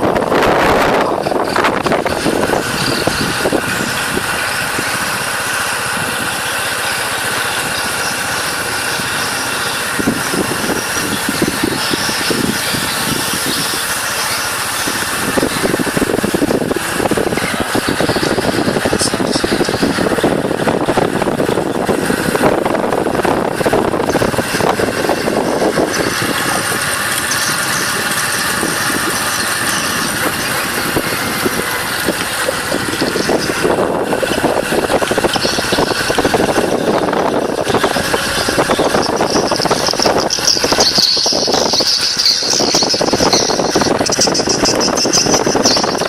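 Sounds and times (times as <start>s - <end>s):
motorbike engine running: 0.0s - 46.0s
wind buffeting microphone: 0.0s - 46.0s.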